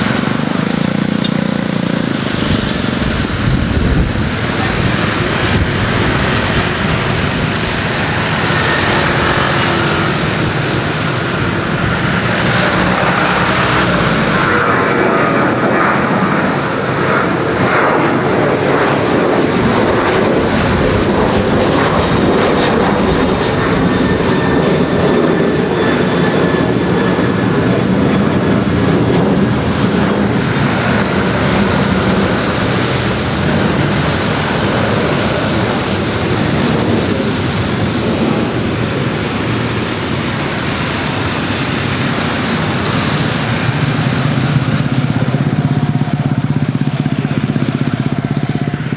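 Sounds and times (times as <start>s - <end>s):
jet engines rushing: 0.0s - 48.9s
thin engine whine: 0.0s - 48.9s.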